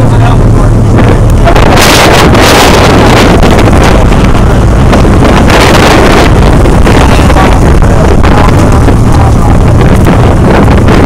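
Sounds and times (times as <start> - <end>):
low steady rumble: 0.0 - 11.0
wind buffeting microphone: 0.0 - 11.0.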